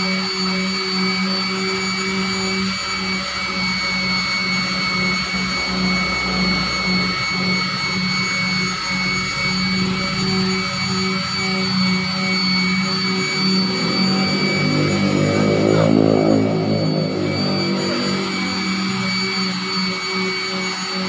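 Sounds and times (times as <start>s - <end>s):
electric sander whining: 0.0s - 21.0s.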